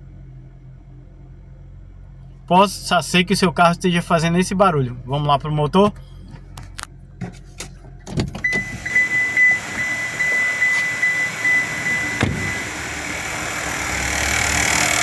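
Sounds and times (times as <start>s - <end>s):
car engine running with whine: 0.0s - 15.0s.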